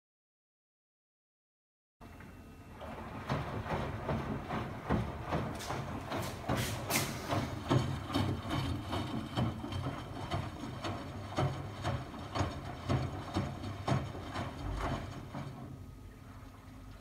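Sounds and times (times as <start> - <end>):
washing machine drum turning: 2.2 - 16.2
water and laundry sloshing: 2.7 - 17.0.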